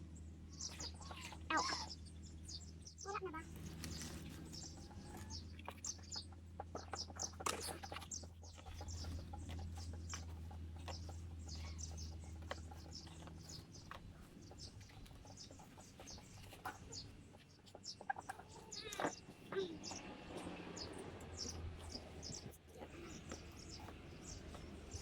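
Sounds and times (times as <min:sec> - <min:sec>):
chickens clucking: 0:00.6 - 0:25.0.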